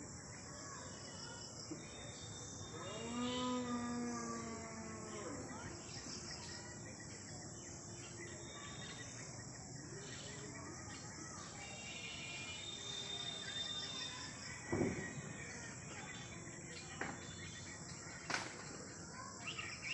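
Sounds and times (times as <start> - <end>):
insects buzzing: 0.0 - 19.9
small birds chirping: 0.0 - 19.9.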